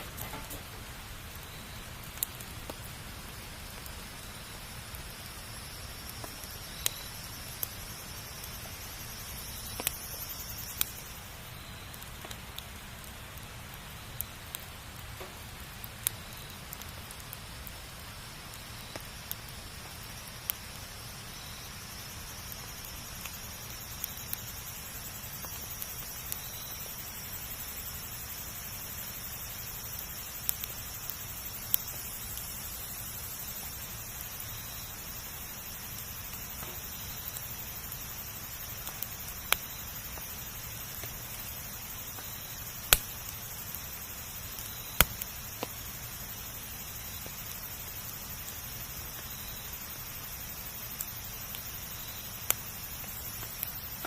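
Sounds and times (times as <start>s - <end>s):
campfire hiss: 0.0s - 54.0s
fire crackles and pops: 0.0s - 54.0s.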